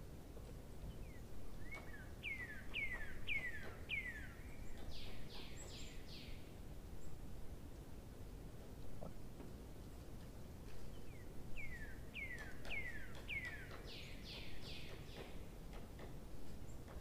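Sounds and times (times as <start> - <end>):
songbird singing: 0.0 - 8.1, 8.7 - 17.0.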